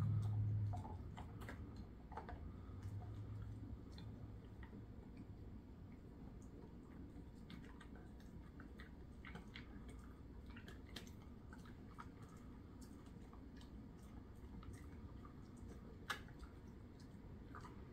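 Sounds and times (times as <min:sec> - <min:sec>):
dog chewing treat: 0:00.0 - 0:17.9.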